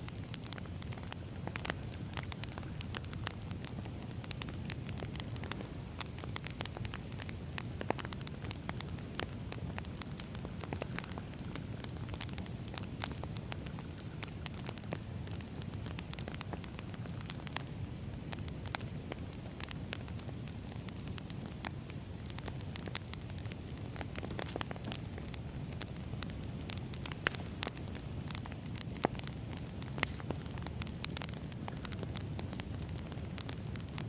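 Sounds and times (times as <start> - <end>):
fire low rumble: 0.0 - 34.0
firewood crackling and popping: 0.0 - 34.0.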